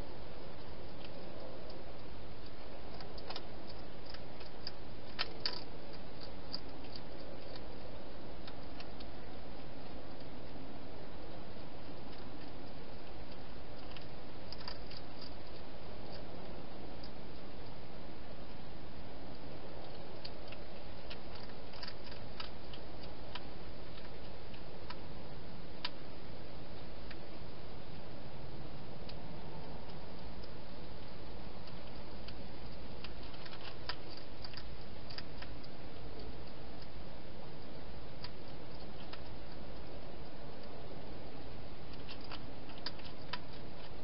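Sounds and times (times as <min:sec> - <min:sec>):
hedgehog chewing: 0:00.0 - 0:44.0
steady hiss: 0:00.0 - 0:44.0.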